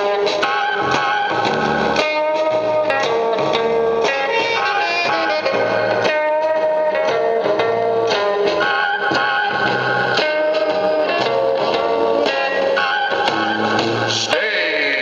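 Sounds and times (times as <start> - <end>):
guitar music from a record player: 0.0 - 15.0.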